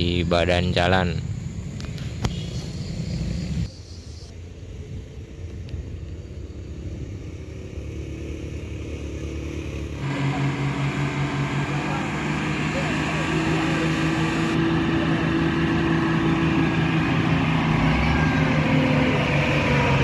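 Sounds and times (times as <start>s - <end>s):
truck engine humming: 0.0s - 20.0s
vehicle engines rumbling: 0.0s - 20.0s.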